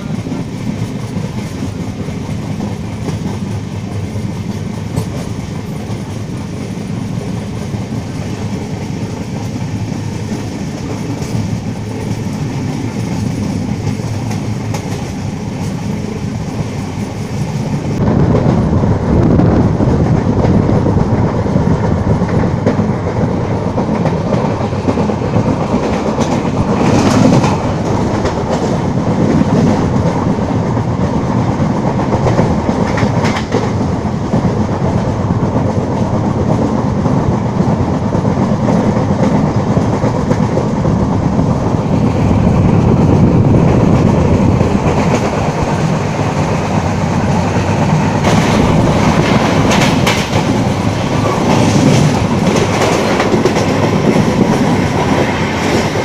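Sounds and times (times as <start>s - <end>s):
clacks over rail joints: 0.0s - 17.6s, 20.3s - 42.3s, 43.1s - 56.0s
train wheels rumbling on rail: 0.0s - 56.0s.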